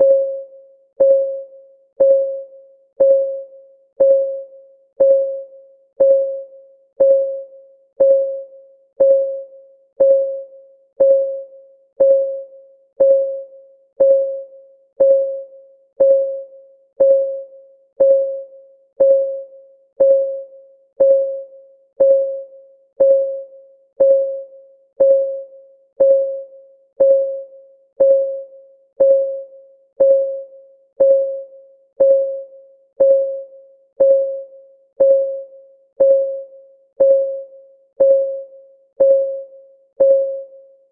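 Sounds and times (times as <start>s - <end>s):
piano-like timer ticks: 1.0s - 1.4s, 2.0s - 2.4s, 3.0s - 30.4s, 31.0s - 40.4s.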